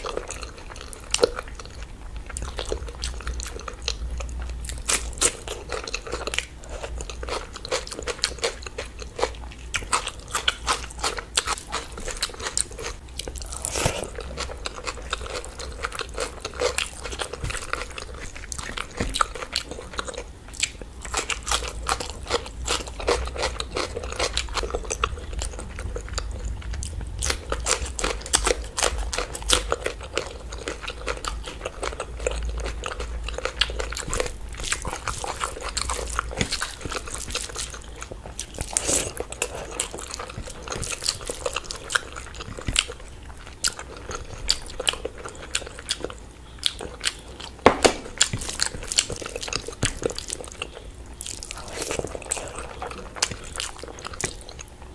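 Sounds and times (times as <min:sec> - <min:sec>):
wet chewing: 0:00.0 - 0:54.8.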